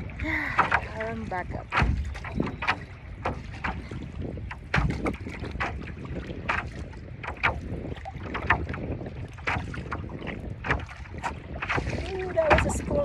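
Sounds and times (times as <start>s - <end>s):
paddle splashing in water: 0.0s - 13.0s
wind rumble on microphone: 0.0s - 13.0s.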